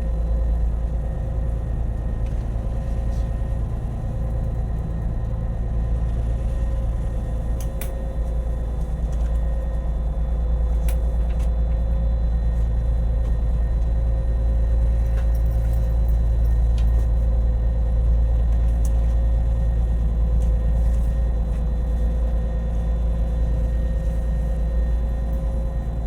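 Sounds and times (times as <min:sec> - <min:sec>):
engine machinery rumble: 0:00.0 - 0:26.0.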